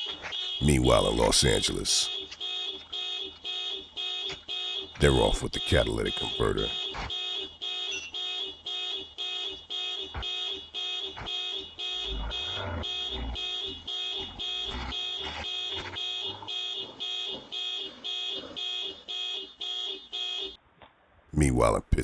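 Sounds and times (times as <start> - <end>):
car alarm beeping: 0.0 - 20.6.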